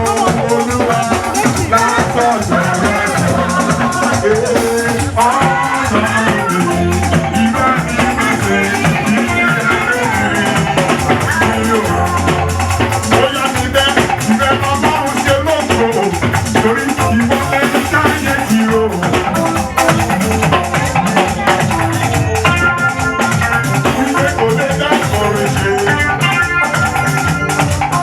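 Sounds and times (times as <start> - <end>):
praise band playing: 0.0 - 28.0.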